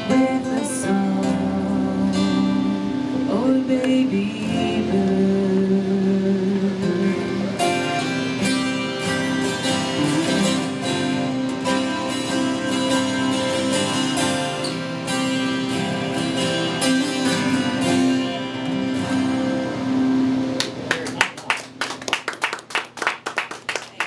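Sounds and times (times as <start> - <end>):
acoustic guitar playing: 0.0 - 21.8.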